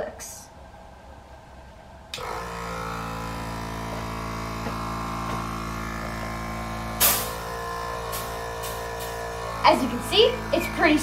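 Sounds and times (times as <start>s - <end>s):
portable air compressor running: 2.2s - 11.0s.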